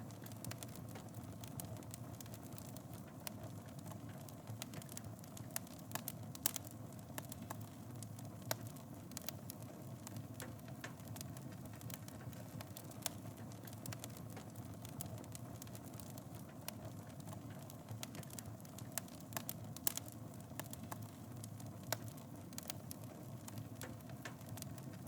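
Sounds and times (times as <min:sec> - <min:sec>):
wood fire burning: 0:00.0 - 0:25.0.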